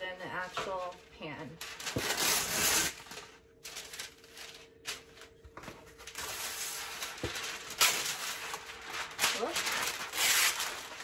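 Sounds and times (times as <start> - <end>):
parchment paper rustling: 0.1 - 11.0.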